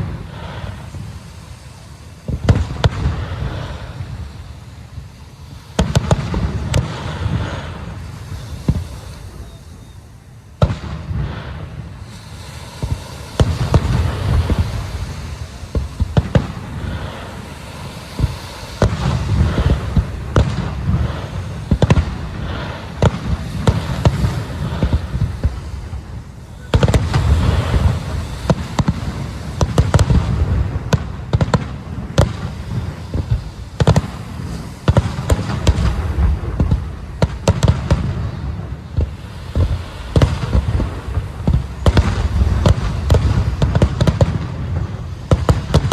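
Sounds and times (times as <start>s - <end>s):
fireworks booming and crackling: 0.0s - 45.9s.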